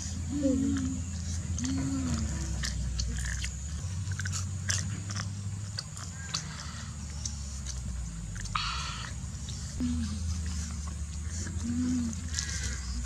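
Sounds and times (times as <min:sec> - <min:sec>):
chewing crunchy food: 0:00.0 - 0:13.0
low hum: 0:00.0 - 0:13.0.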